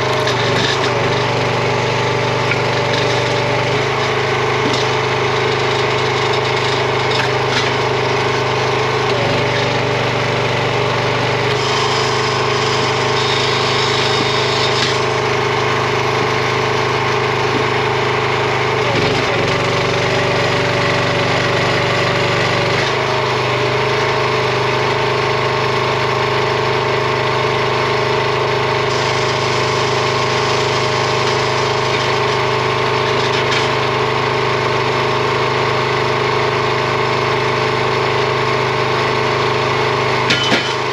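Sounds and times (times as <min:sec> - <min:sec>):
log splitter engine running: 0:00.0 - 0:40.9.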